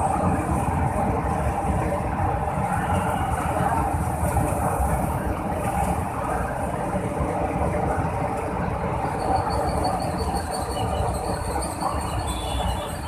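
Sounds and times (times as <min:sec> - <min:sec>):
light rail train passing: 0:00.0 - 0:13.0.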